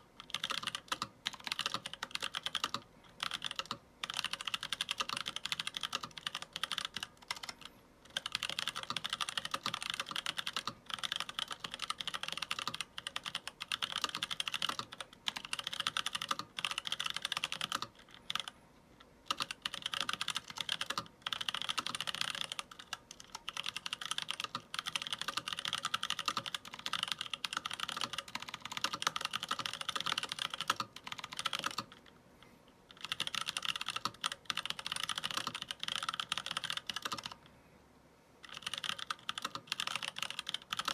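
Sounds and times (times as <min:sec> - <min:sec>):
typing on mechanical keyboard: 0:00.2 - 0:18.6, 0:19.2 - 0:32.1, 0:32.9 - 0:37.4, 0:38.4 - 0:40.9.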